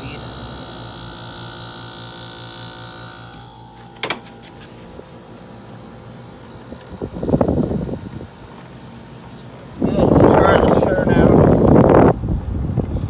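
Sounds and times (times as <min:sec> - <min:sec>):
air conditioner fan rushing: 0:00.0 - 0:13.0
air conditioner humming: 0:00.0 - 0:13.0.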